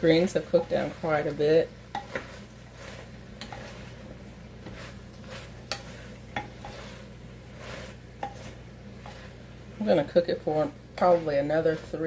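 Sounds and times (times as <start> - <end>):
spoon stirring and knocking pot: 0.0 - 12.0
vegetables sizzling in oil: 0.0 - 12.0.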